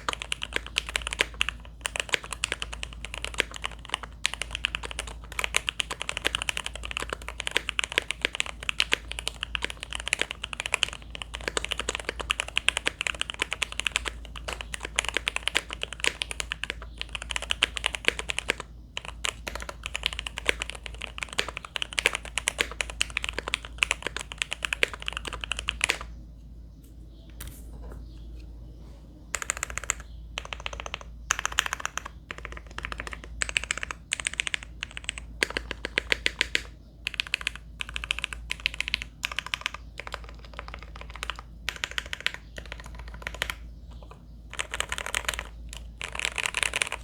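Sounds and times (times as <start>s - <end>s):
fast mechanical keyboard typing: 0.0s - 26.1s, 29.4s - 47.0s.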